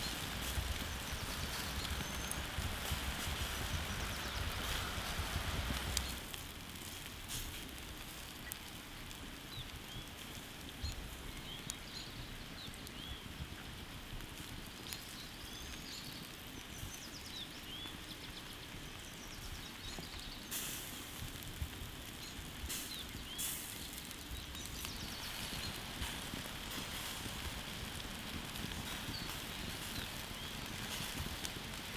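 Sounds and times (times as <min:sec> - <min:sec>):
small birds chirping: 0:00.0 - 0:06.4, 0:08.1 - 0:31.9
embers crackling and popping: 0:00.0 - 0:31.9.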